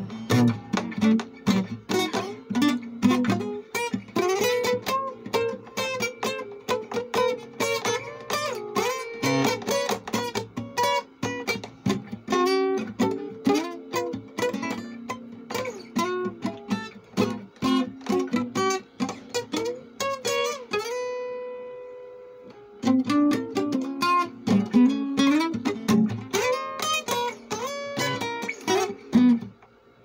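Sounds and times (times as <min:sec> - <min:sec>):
acoustic guitar blues playing: 0:00.0 - 0:29.7.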